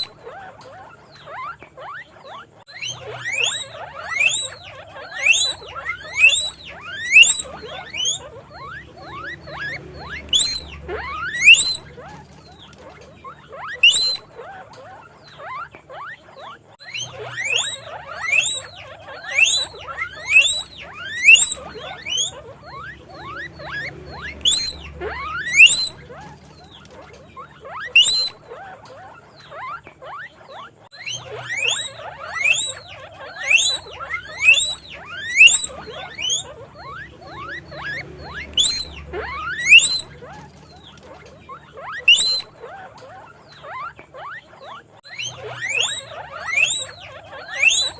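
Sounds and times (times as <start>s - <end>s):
guinea pig squealing: 0.0s - 47.9s.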